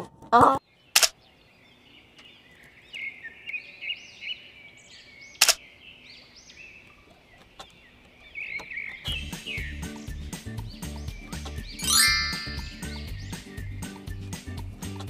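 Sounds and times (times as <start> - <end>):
songbirds chirping: 0.6 - 14.1.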